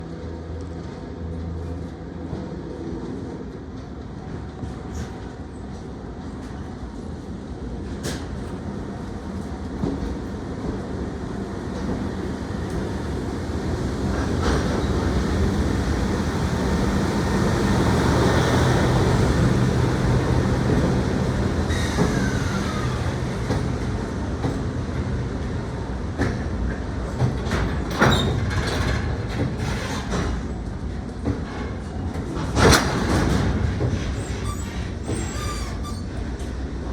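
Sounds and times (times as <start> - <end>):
freight train rumbling past: 0.0 - 36.9.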